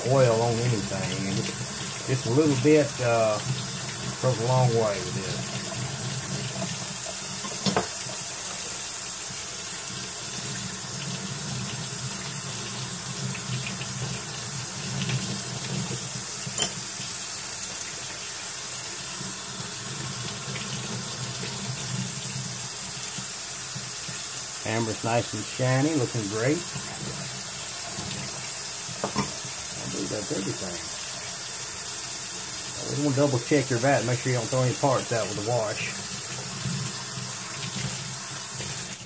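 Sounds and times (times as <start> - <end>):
tap water running into sink: 0.0 - 39.0.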